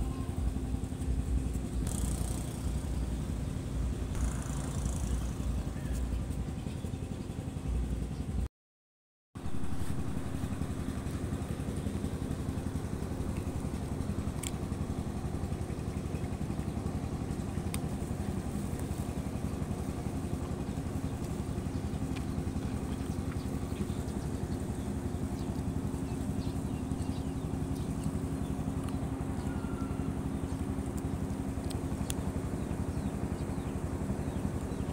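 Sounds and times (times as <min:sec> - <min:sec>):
small engine idling: 0:00.0 - 0:08.5, 0:09.4 - 0:34.9.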